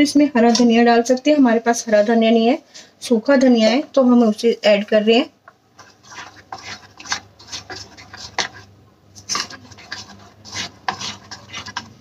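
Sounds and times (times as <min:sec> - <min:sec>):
spoon stirring batter in a bowl: 0:00.0 - 0:02.5, 0:03.3 - 0:12.0.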